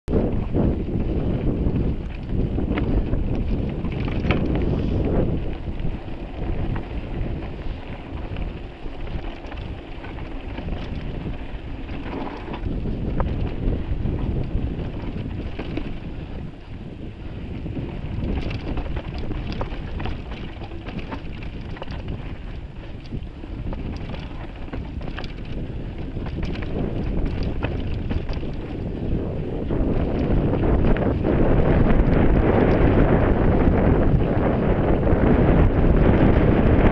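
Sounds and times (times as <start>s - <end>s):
wind buffeting microphone: 0.0s - 36.9s
bike clicks and rattles: 0.1s - 36.9s
tyres rumbling over dirt: 0.1s - 36.9s.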